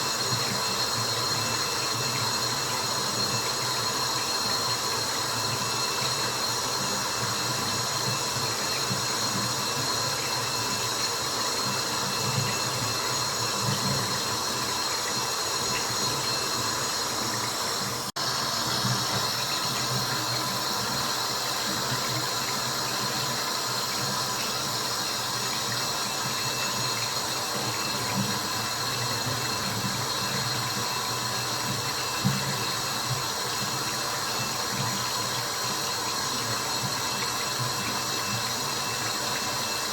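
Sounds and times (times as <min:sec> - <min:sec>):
water dripping and running: 0:00.0 - 0:39.9.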